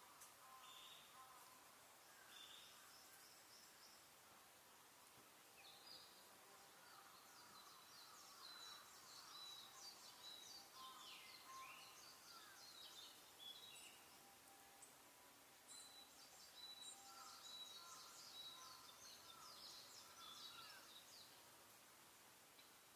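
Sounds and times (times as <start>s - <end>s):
faint songbirds chirping: 0.0s - 22.9s.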